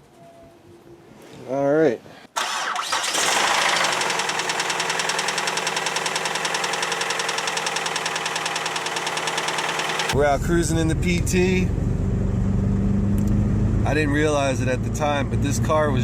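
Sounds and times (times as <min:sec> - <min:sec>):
car engine starting and idling: 0:02.4 - 0:15.9.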